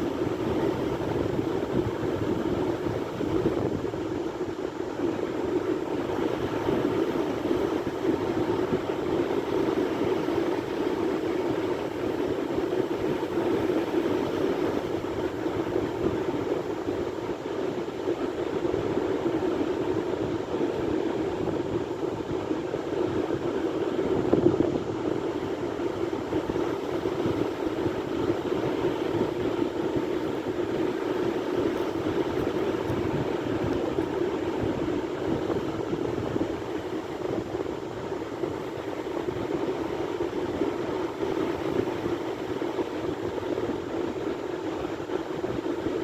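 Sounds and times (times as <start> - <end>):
sea waves breaking: 5.3 - 46.0.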